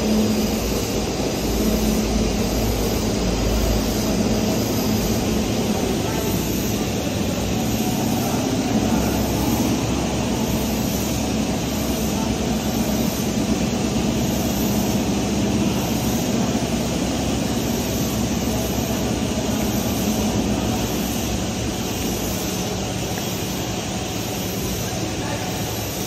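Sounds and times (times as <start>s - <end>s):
industrial drone with low hum: 0.0s - 26.0s.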